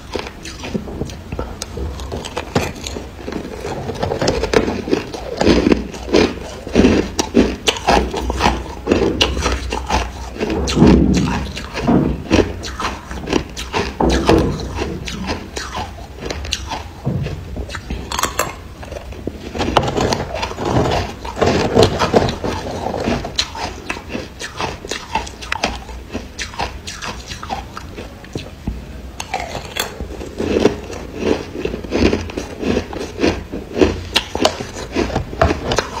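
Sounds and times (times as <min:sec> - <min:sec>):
chewing crunchy ice: 0:00.0 - 0:36.0.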